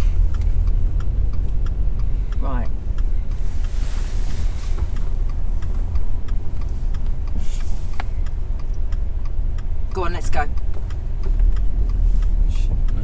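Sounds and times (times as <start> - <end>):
car engine rumble: 0.0 - 13.0
passing traffic swishing: 0.0 - 13.0
turn signal ticking: 0.0 - 13.0.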